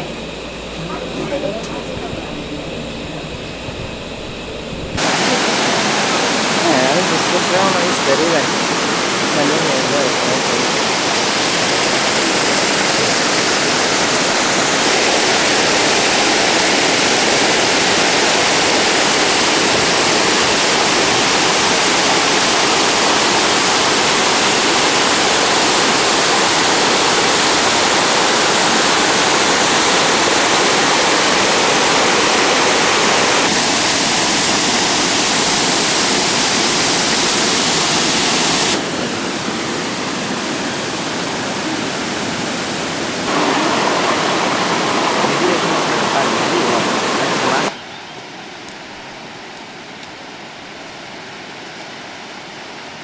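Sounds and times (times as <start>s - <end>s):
waterfall rushing: 5.0s - 47.7s.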